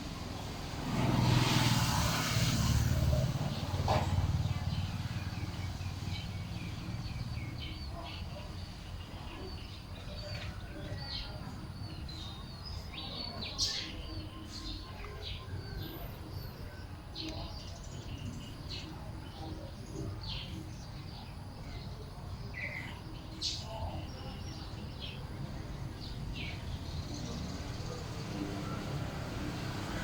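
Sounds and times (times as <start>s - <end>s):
small birds chirping: 2.1s - 30.0s.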